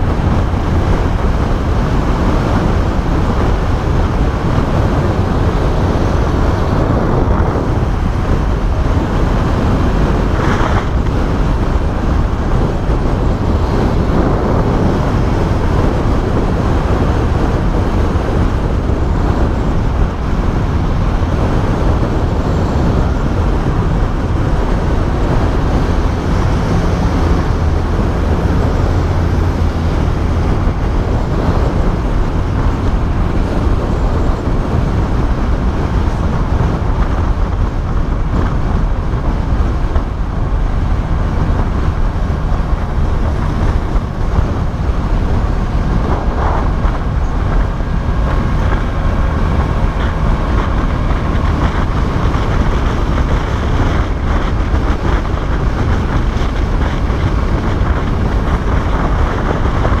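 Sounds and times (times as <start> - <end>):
motorcycle engine and road noise: 0.0 - 60.0
wind rushing over microphone: 0.0 - 60.0.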